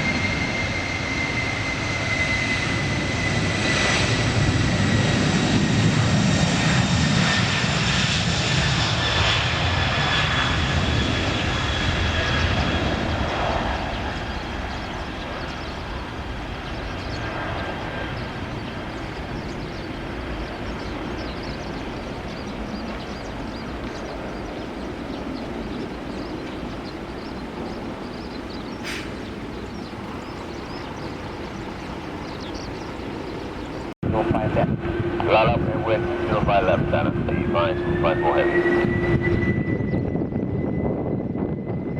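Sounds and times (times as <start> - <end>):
jet engines whining and rumbling: 0.0 - 41.9.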